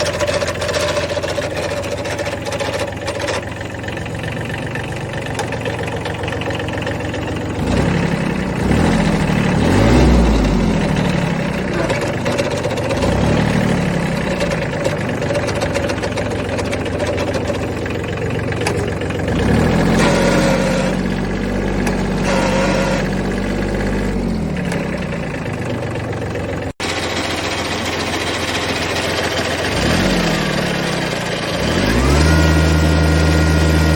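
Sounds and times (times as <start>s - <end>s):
tractor diesel engine revving: 0.0s - 33.9s.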